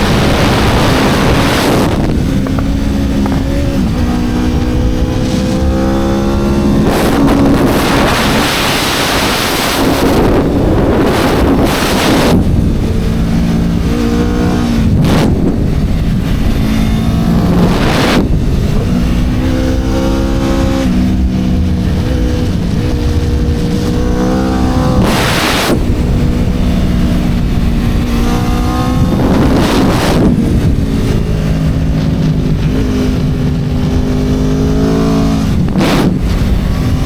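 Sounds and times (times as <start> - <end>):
motorcycle engine running hard: 0.0 - 37.0
wind gusts: 0.0 - 37.0.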